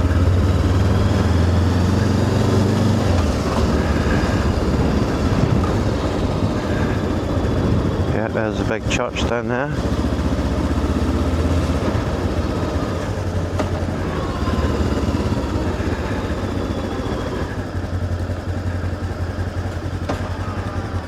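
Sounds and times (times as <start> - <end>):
motorcycle engine running: 0.0 - 21.0
riding wind noise: 0.0 - 21.0.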